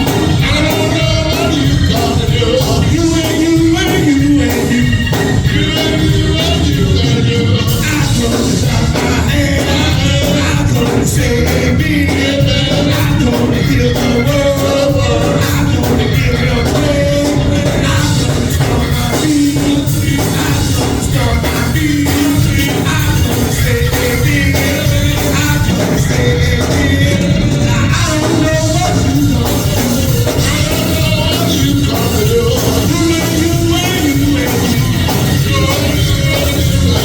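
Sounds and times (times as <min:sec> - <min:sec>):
church band with drums and bass: 0:00.0 - 0:37.0
voices singing: 0:00.0 - 0:37.0.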